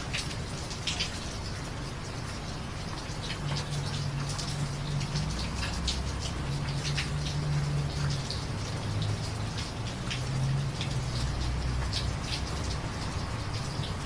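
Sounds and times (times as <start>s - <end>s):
rain drops ticking and splashing: 0.0s - 14.0s.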